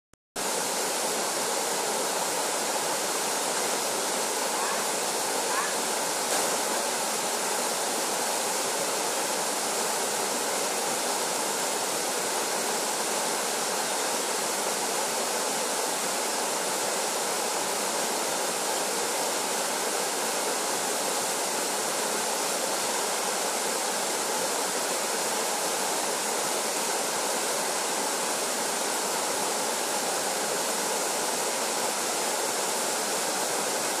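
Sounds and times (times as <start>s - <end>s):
small waterfall rushing: 0.4s - 34.0s.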